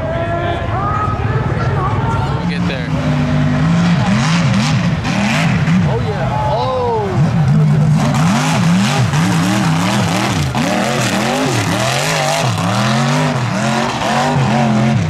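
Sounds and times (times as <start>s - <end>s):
buggy engine revving: 0.0s - 15.0s.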